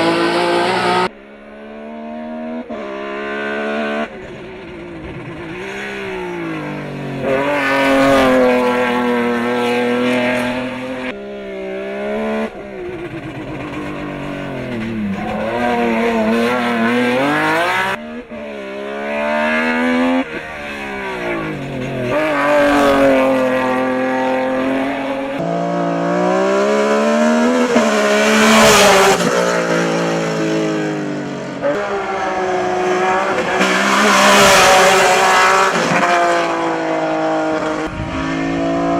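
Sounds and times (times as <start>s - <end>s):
race car engine at full throttle: 0.0s - 38.9s.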